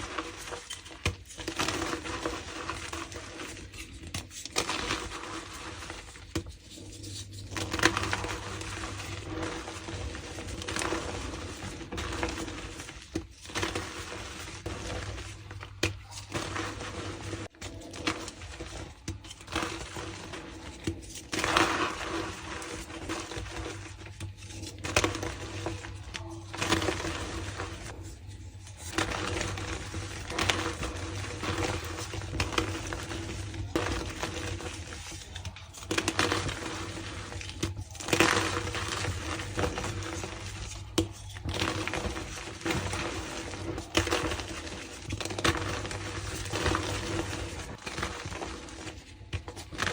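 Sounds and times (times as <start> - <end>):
chalk blocks crunching: 0.0 - 49.9.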